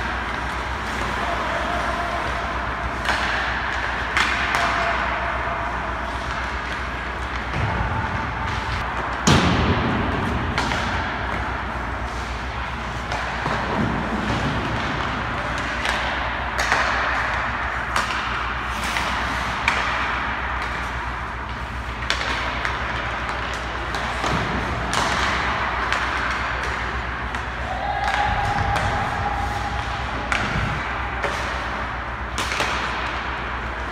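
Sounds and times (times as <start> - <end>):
skates scraping ice: 0.0 - 9.2, 9.9 - 33.9
pucks and sticks knocking: 0.0 - 33.9
steady low hum: 0.0 - 33.9.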